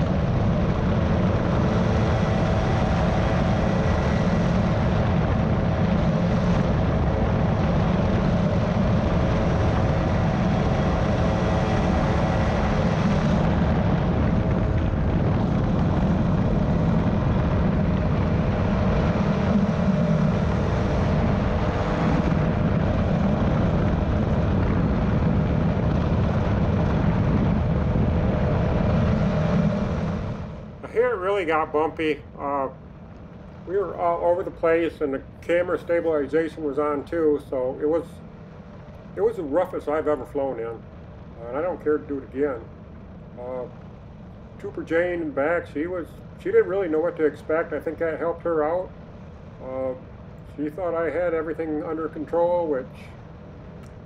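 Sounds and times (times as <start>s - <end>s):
engine and propeller running: 0.0s - 54.0s.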